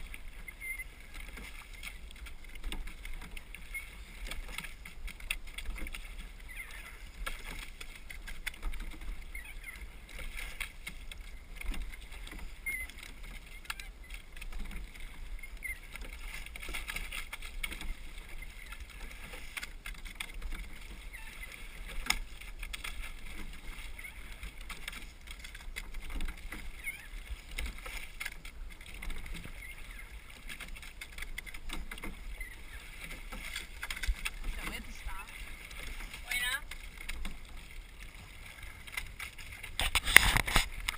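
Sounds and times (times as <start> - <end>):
oars knocking: 0.0 - 40.9
water splashing along hull: 0.0 - 40.9.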